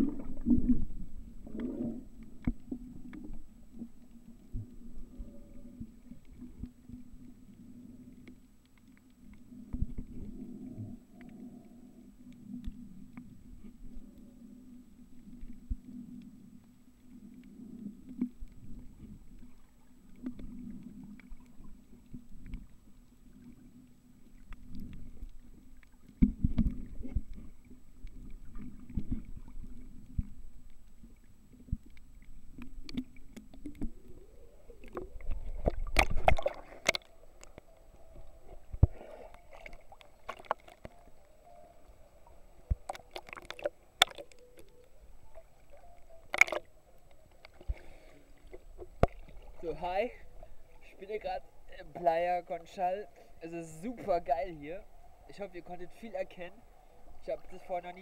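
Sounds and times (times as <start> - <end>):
water splashing against camera: 0.0 - 11.6, 15.1 - 52.8
muffled underwater water movement: 0.0 - 58.0.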